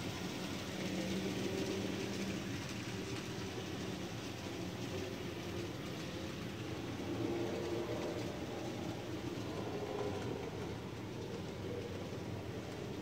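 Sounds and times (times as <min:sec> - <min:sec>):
model train whirring on rails: 0:00.0 - 0:13.0.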